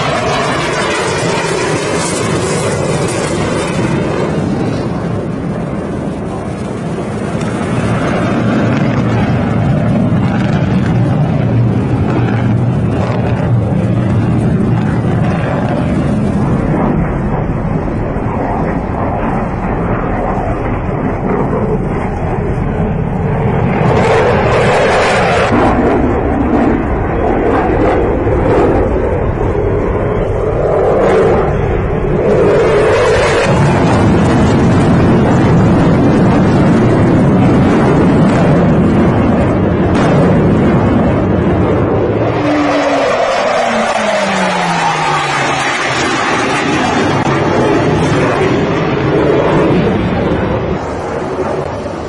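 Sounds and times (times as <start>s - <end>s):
jet engines roaring in flight: 0.0s - 52.0s.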